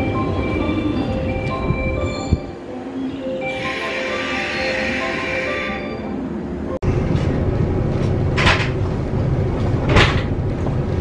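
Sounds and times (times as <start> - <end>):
steady low hum from train car: 0.0 - 11.0.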